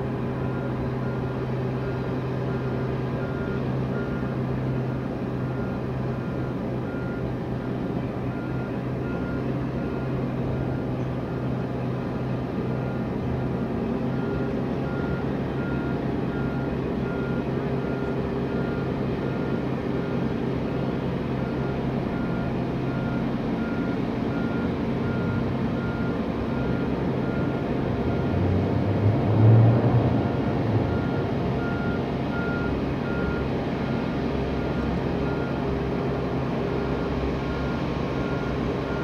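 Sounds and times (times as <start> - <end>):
low engine rumble: 0.0 - 39.0
reversing alarm beeping: 0.3 - 11.6, 14.1 - 20.3, 21.4 - 28.4, 30.2 - 35.7, 36.7 - 39.0.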